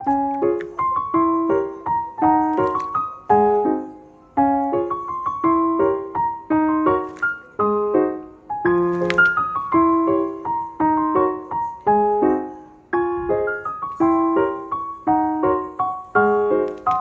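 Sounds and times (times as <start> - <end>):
light bouncy piano music: 0.0 - 17.0.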